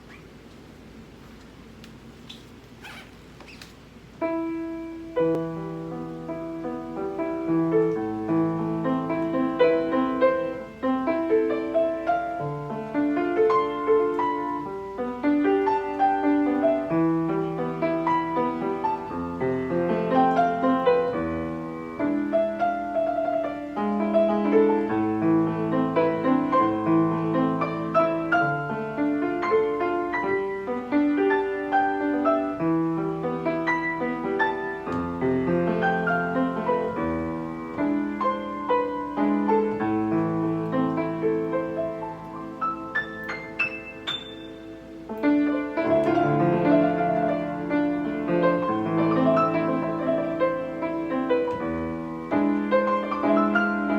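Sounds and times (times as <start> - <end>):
piano piece: 2.0 - 53.9.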